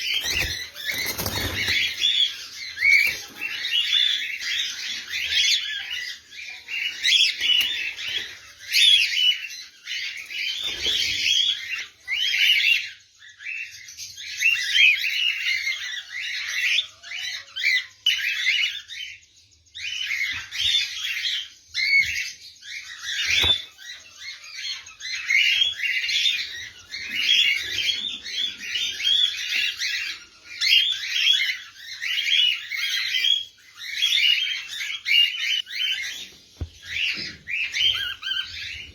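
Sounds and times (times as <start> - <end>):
lovebirds chattering: 0.0 - 38.9.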